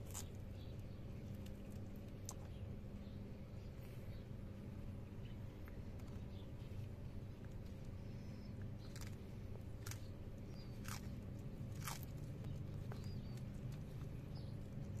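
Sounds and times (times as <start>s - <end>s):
tortoise crunching lettuce: 0.0s - 3.2s, 5.2s - 15.0s
steady low hum: 0.0s - 15.0s.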